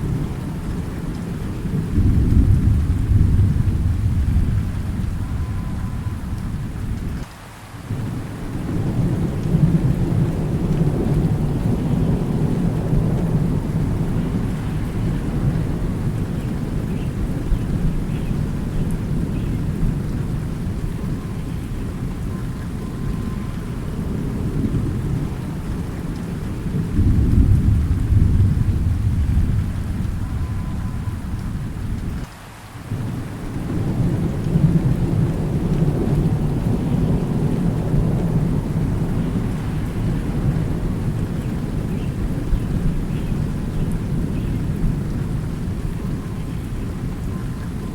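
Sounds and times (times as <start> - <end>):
low rolling thunder: 0.0 - 32.3, 32.9 - 47.9
steady rain: 0.0 - 47.9.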